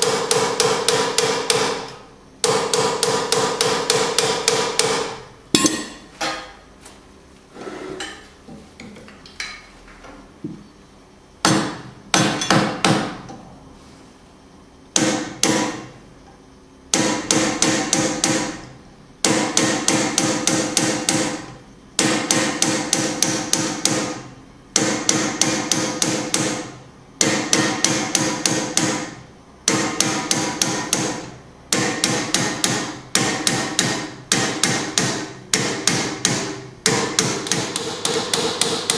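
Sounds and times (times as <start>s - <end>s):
hammer striking punch on metal: 0.0s - 6.6s, 11.4s - 13.3s, 14.9s - 16.0s, 16.9s - 38.9s.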